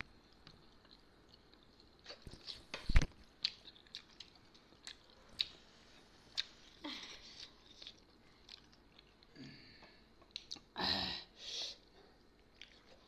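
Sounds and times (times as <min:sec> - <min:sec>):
people chewing: 0:00.2 - 0:10.8, 0:11.8 - 0:13.0.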